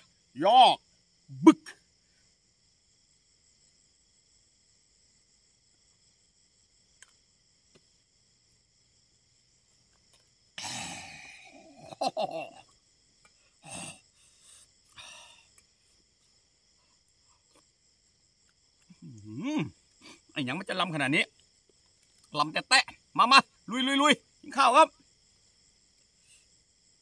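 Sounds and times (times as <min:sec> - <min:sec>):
crickets and insects trilling: 0:00.0 - 0:27.0.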